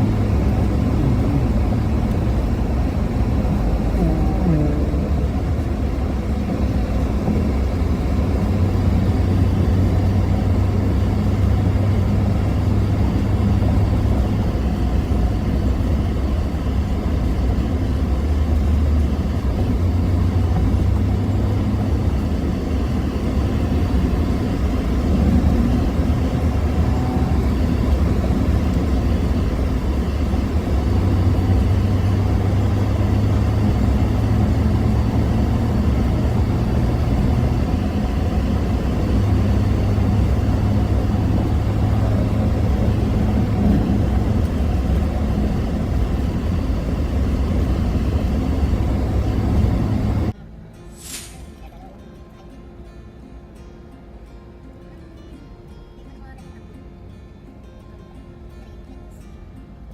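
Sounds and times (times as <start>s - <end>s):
car engine and tyres rumbling: 0.0s - 50.6s.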